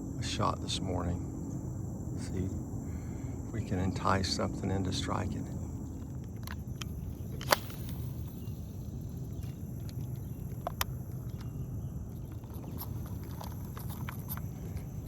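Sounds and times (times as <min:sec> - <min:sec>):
steady low rumble: 0:00.0 - 0:15.0
light scattered ticks: 0:02.2 - 0:15.0.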